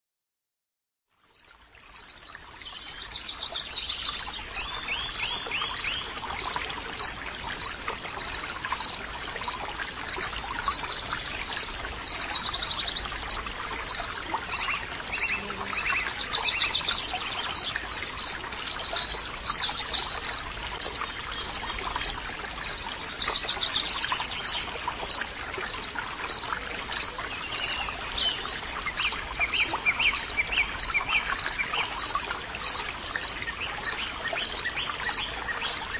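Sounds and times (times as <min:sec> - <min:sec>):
stream flowing: 0:01.1 - 0:35.9.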